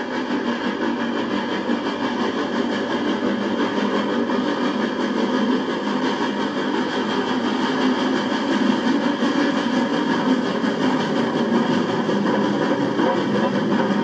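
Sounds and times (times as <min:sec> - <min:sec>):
steam locomotive working: 0:00.0 - 0:14.0.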